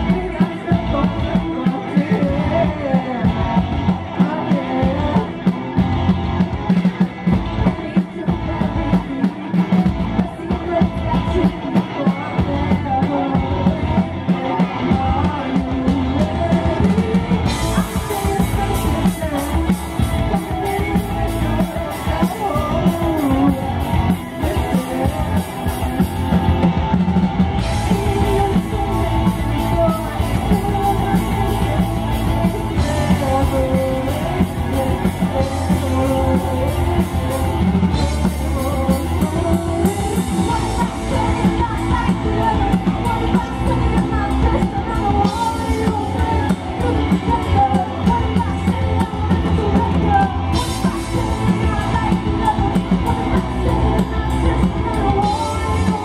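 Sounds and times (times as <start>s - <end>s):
bass guitar: 0.0s - 56.0s
drum kit beat: 0.0s - 56.0s
electric guitars: 0.0s - 56.0s
person singing: 0.0s - 56.0s.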